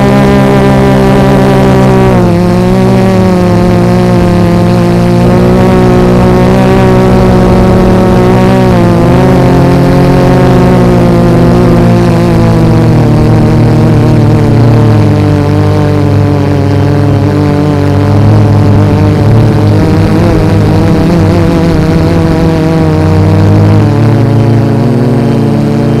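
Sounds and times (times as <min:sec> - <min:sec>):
drone motors and propellers droning: 0:00.0 - 0:26.0.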